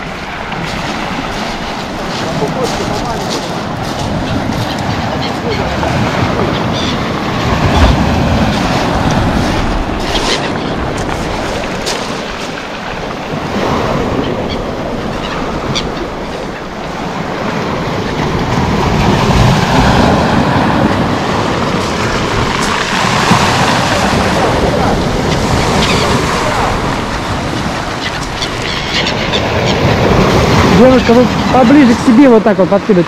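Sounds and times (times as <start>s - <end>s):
surf on pebble beach: 0.0s - 33.0s
wind buffeting microphone: 0.0s - 33.0s.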